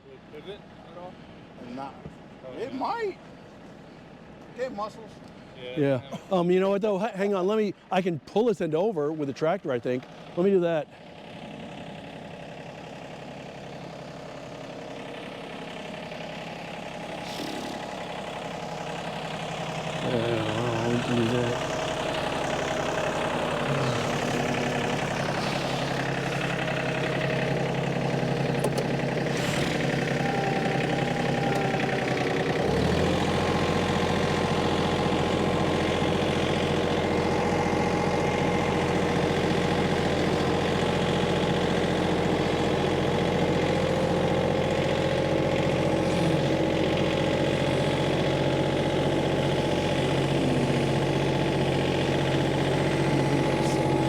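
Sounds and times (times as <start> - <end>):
tractor engine running: 9.4 - 54.0.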